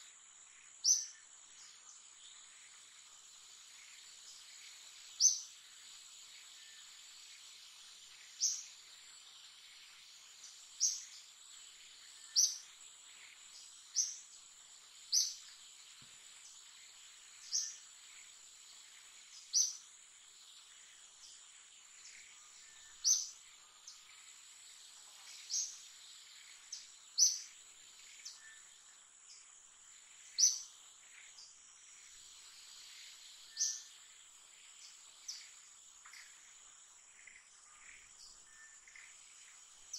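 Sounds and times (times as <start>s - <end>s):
high insect hum: 0.0s - 39.9s.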